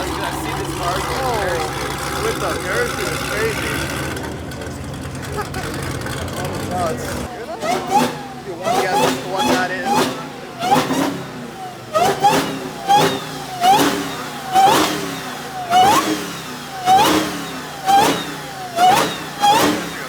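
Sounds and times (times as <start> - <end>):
car engine revving in blips: 0.0 - 20.0.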